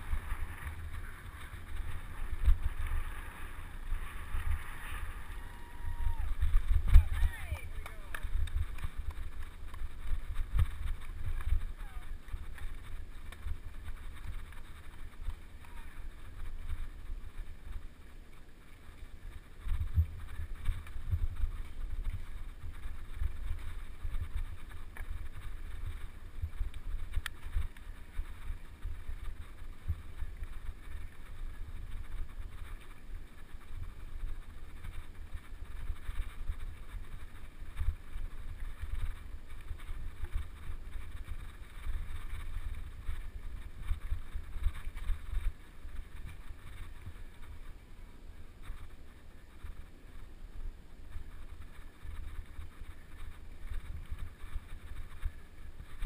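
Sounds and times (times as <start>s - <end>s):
wind buffeting microphone: 0.0s - 18.1s, 18.8s - 56.0s
bike rolling over dirt trail: 0.0s - 56.0s.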